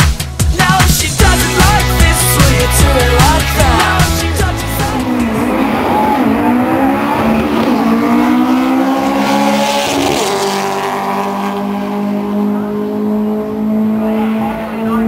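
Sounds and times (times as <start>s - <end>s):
drag car engine accelerating: 1.0s - 15.0s.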